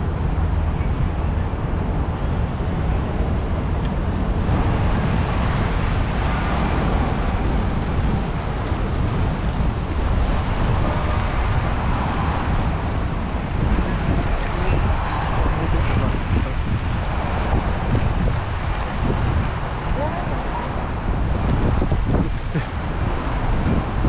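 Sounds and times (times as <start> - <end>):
city street traffic: 0.0 - 24.0
rain: 0.0 - 24.0
wind buffeting microphone: 0.0 - 24.0.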